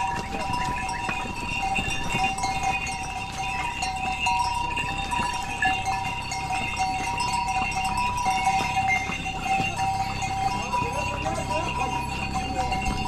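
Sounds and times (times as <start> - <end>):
harness bells ringing: 0.0 - 13.0.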